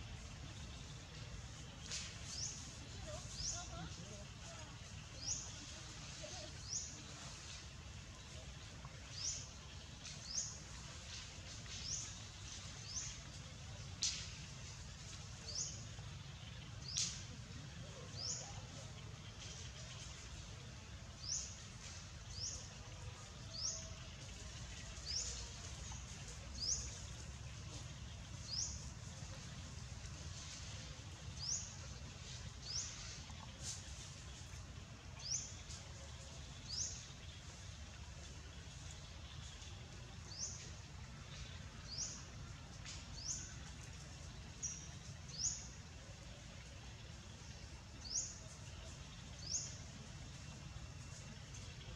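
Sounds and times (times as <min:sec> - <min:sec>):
low outdoor rumble: 0:00.0 - 0:51.9.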